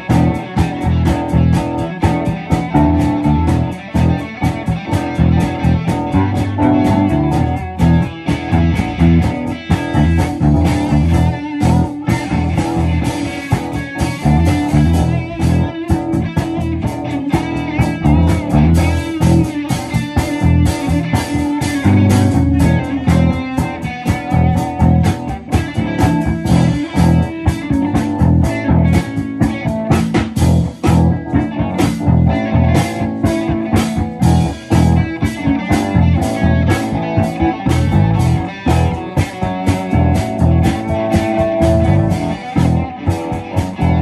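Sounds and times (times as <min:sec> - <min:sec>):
bluesy rock band playing: 0:00.0 - 0:44.0.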